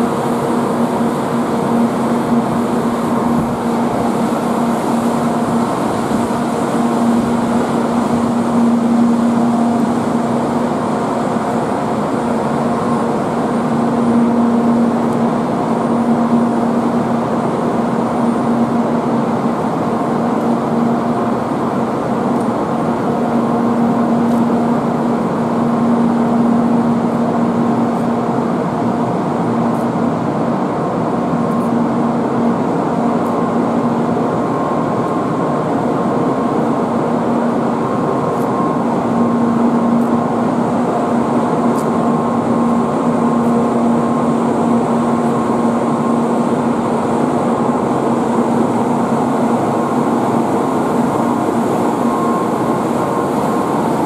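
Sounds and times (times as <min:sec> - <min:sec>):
train electric motor humming: 0:00.0 - 0:54.0.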